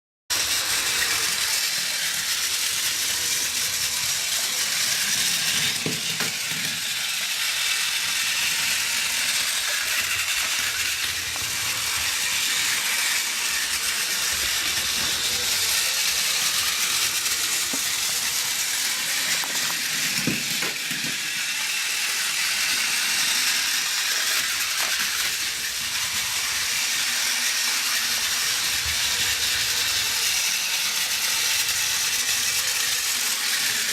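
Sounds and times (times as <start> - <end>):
toy train motor whirring: 0.3 - 33.9.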